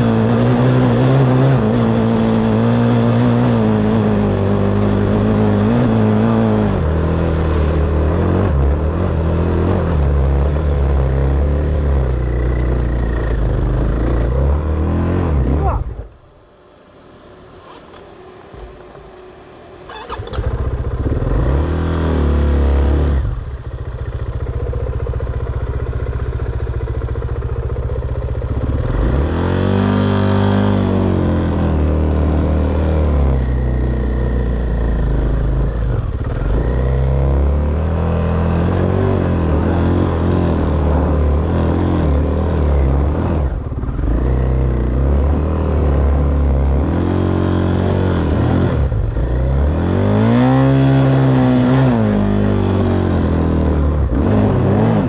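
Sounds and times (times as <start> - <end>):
dirt bike engine revving: 0.0 - 16.2, 19.9 - 55.0.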